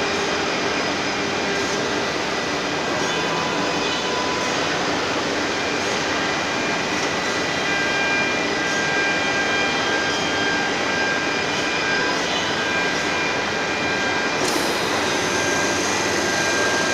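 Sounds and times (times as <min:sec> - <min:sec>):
router spindle whine: 0:00.0 - 0:16.9.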